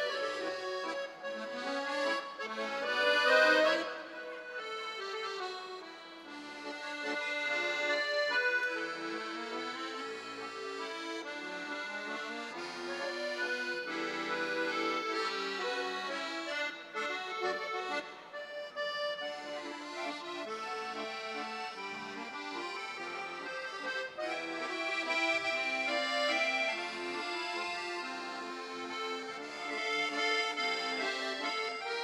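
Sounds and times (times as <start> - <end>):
accordion trio playing: 0.0 - 32.0.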